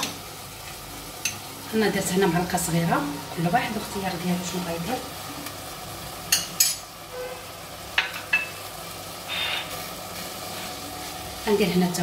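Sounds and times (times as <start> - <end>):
chicken and onion sizzling in oil: 0.0 - 12.0.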